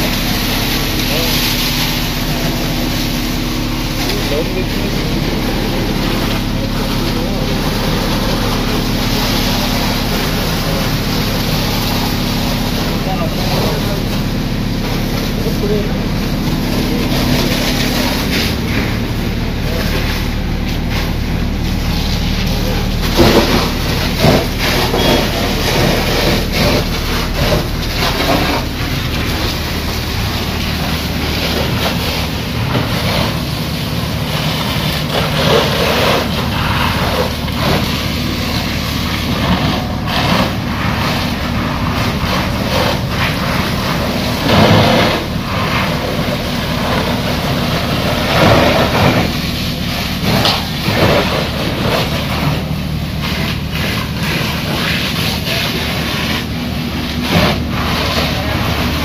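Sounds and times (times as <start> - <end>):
hose jet spraying water: 0.0 - 59.0
pump running: 0.0 - 59.0.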